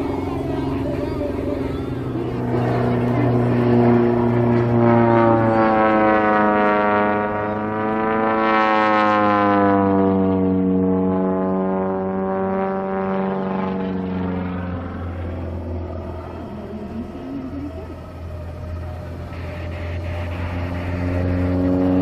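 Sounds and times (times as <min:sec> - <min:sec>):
propeller plane droning overhead: 0:00.0 - 0:22.0.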